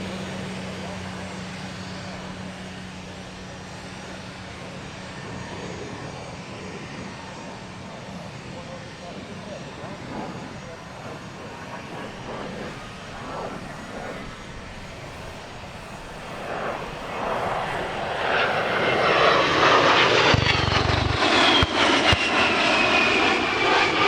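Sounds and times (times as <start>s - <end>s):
aircraft piston engines passing: 0.0s - 24.0s
propeller whine: 0.0s - 24.0s.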